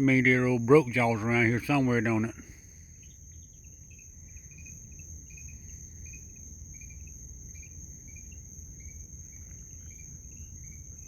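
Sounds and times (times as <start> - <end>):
crickets chirping: 0.0 - 11.0
low background rumble: 0.0 - 11.0
high-pitched insect trill: 0.1 - 11.0.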